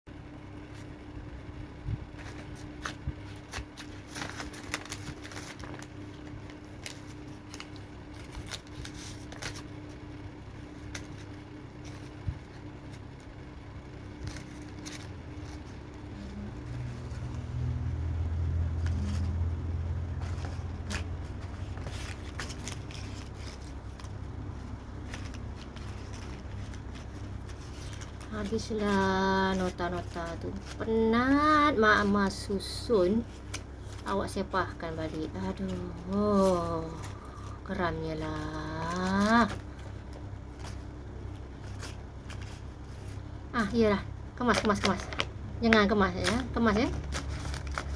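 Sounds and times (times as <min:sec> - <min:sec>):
low background rumble: 0:00.1 - 0:47.9
steady low hum: 0:00.1 - 0:47.9
papers rustling and crinkling: 0:01.8 - 0:13.4, 0:14.0 - 0:17.7, 0:18.7 - 0:47.9.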